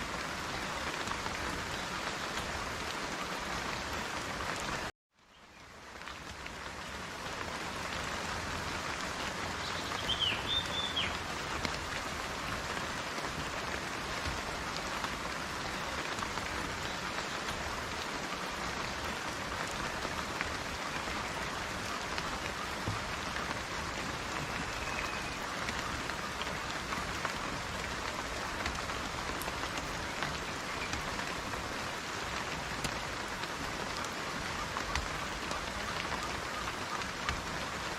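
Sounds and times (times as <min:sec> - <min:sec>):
rain pattering on surfaces: 0:00.0 - 0:37.9.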